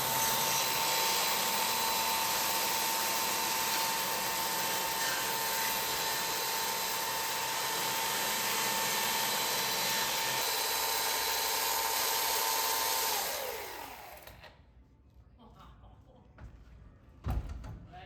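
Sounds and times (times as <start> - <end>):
electric power tool whining: 0.0 - 14.5.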